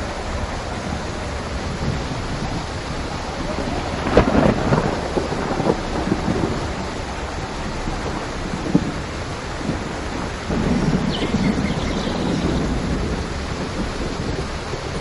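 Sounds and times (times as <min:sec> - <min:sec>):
steady rain falling: 0:00.0 - 0:15.0
thunder crackling and rumbling: 0:00.0 - 0:15.0.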